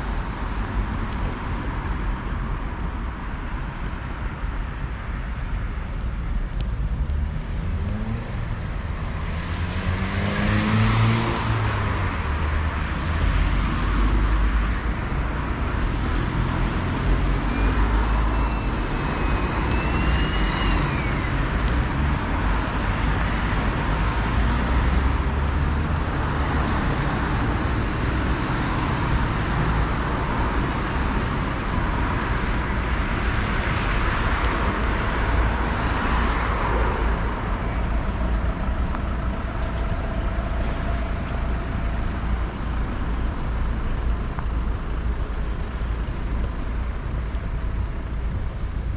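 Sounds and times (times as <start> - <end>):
city street traffic: 0.0 - 48.9.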